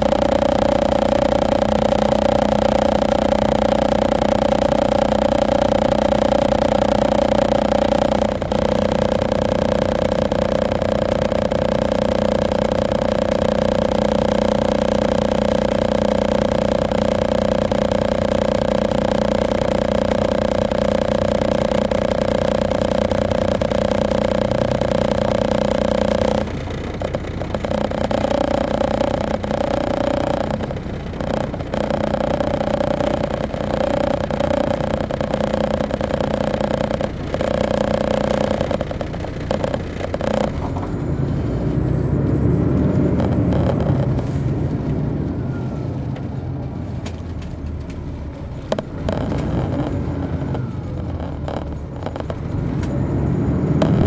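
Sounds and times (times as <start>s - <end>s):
coach engine drone: 0.0s - 54.0s.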